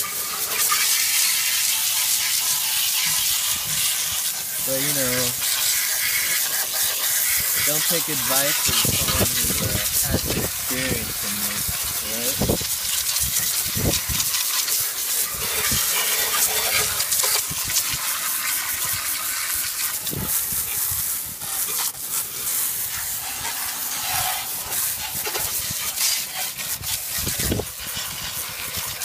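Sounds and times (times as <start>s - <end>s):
water spraying onto lawn mower: 0.0s - 29.0s.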